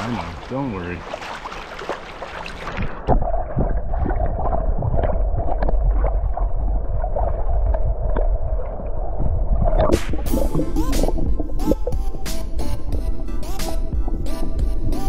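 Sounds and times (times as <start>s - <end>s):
muffled underwater stream rushing: 0.0s - 15.0s.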